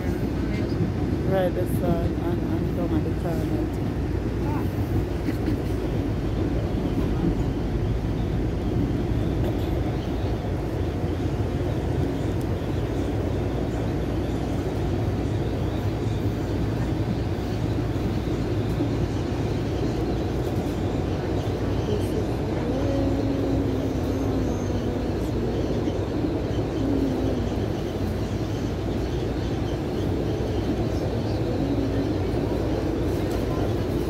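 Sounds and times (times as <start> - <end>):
vehicle rumble and road noise: 0.0 - 34.0.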